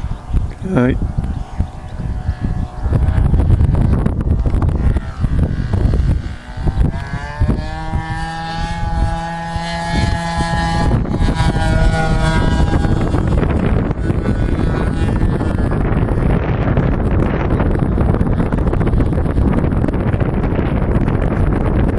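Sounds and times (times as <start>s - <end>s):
model aeroplane motor droning: 0.0s - 21.9s
wind buffeting microphone: 0.0s - 21.9s.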